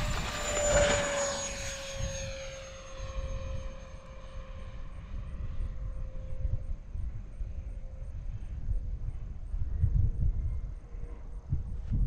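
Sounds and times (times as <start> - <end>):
model jet ducted fans whining: 0.0 - 12.0.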